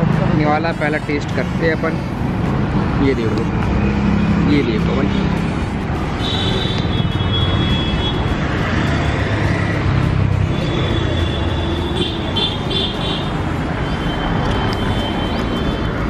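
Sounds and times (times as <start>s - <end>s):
passing vehicles rumble: 0.0s - 16.0s.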